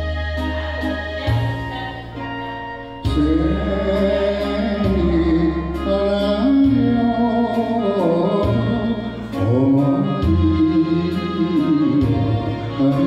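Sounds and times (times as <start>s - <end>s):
instrumental accompaniment: 0.0s - 13.0s
person singing: 0.0s - 13.0s.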